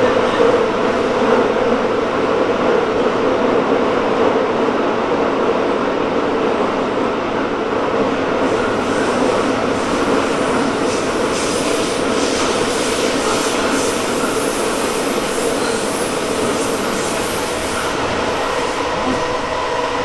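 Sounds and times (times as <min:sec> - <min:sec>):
subway wheels rumbling on rail: 0:00.0 - 0:20.0.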